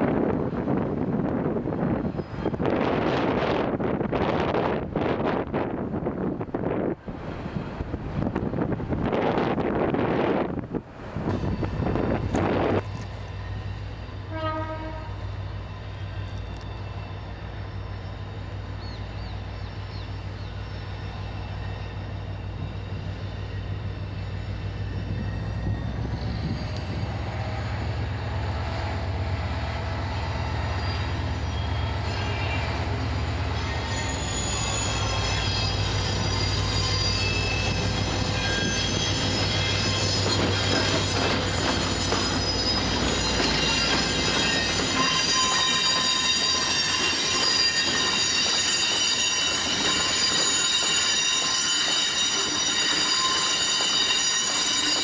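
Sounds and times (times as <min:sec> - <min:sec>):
diesel locomotive engine rumble: 0:00.0 - 0:51.6
train wheels squealing on rails: 0:01.7 - 0:04.3, 0:11.1 - 0:55.0.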